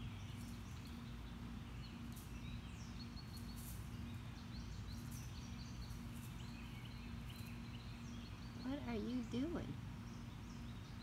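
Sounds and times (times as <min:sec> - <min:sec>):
songbirds chirping: 0:00.0 - 0:11.0
steady low hum: 0:00.0 - 0:11.0.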